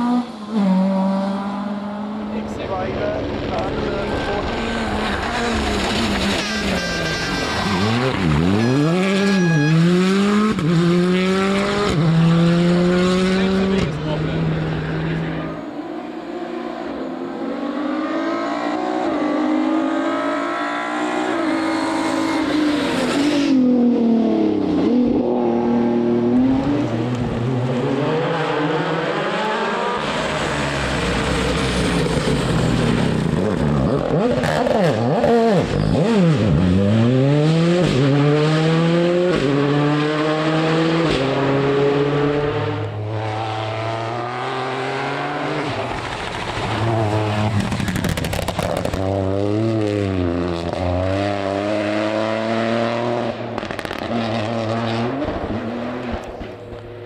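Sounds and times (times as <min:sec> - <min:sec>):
rally cars at full throttle: 0:00.0 - 0:57.0.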